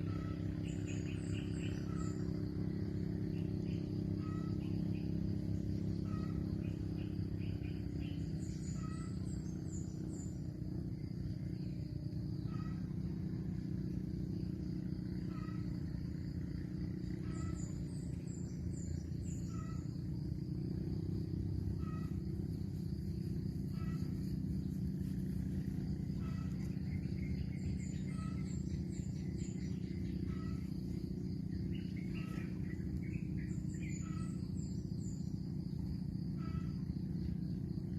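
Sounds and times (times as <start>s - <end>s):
bird chirping: 0.0s - 37.8s
insect high drone: 0.0s - 37.9s.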